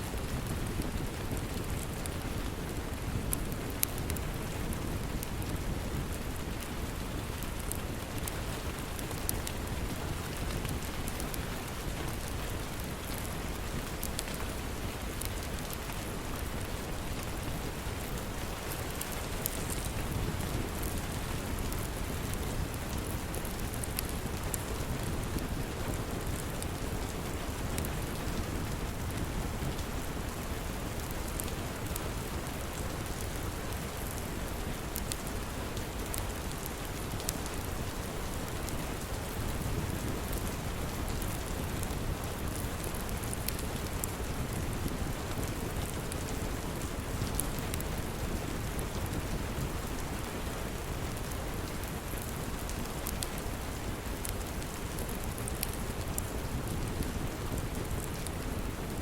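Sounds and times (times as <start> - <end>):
heavy rain: 0.0 - 59.0
fireplace crackling: 0.1 - 59.0.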